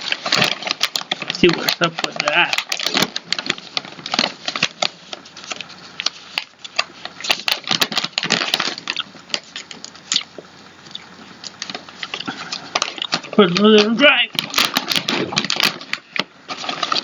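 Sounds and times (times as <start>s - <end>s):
crisps crunching: 0.0s - 17.0s
plastic snack bag crinkling: 0.0s - 17.0s.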